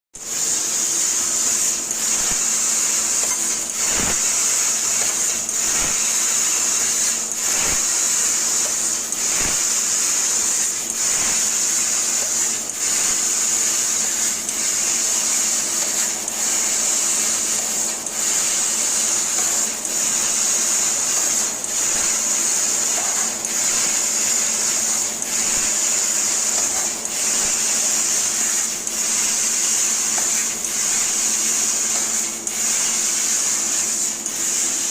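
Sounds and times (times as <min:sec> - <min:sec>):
laser cutter high hiss: 0:00.2 - 0:34.9
machine hum: 0:00.2 - 0:34.9
machine clicks: 0:00.3 - 0:34.9.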